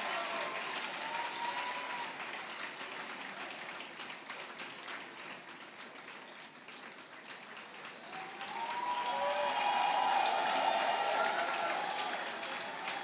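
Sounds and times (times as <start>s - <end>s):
congregation applauding: 0.0s - 13.0s.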